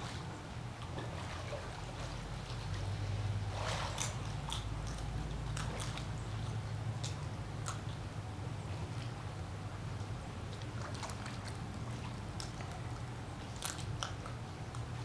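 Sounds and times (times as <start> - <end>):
steady low hum: 0.0 - 15.0
water lapping and trickling: 0.0 - 15.0.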